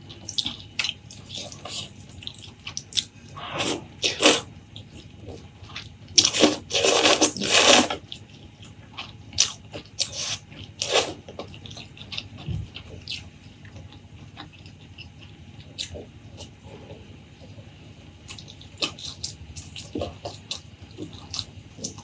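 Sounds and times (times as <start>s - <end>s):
crunching and chewing: 0.0s - 22.0s.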